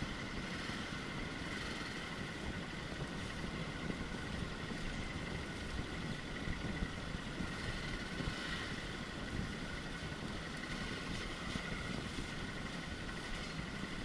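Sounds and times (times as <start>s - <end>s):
off-road motorcycle running: 0.0s - 14.0s
wind rumble on microphone: 0.0s - 14.0s.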